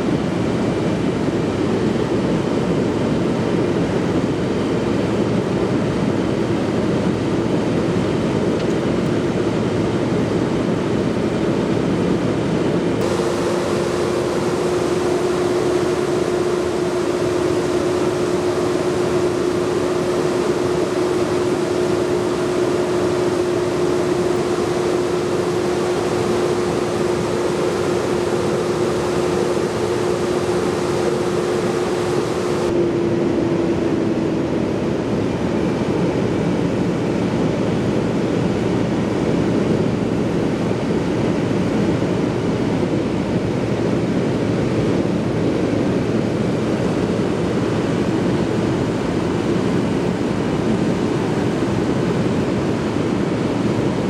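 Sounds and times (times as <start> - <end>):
fire engine humming: 0.0 - 54.0.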